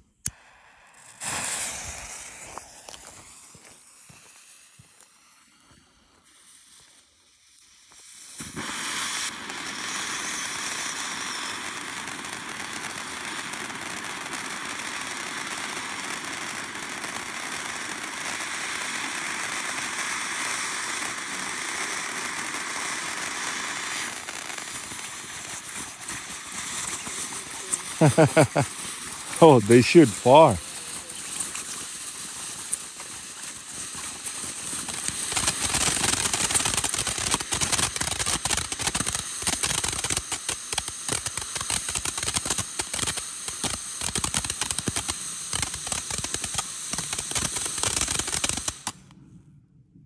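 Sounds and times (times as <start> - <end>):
firework fuse sputtering: 0.0 - 49.1
fountain firework spraying sparks: 0.0 - 49.1.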